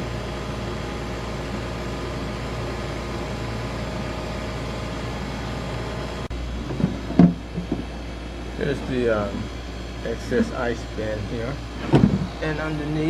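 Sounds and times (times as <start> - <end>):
ice machine humming: 0.0 - 13.0.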